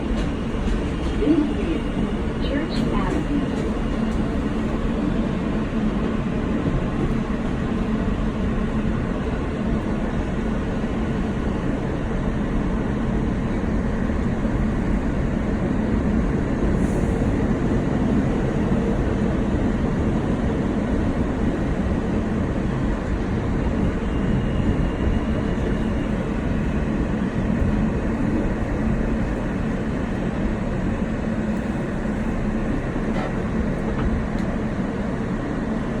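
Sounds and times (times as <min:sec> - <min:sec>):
subway train wheels rumbling: 0:00.0 - 0:36.0.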